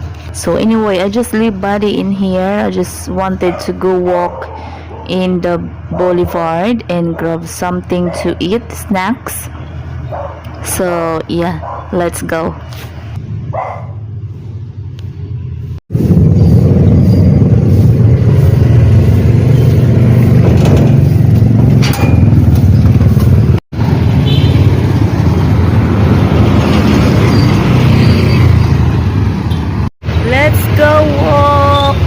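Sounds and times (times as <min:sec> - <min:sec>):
street traffic rumble: 0:00.0 - 0:32.0.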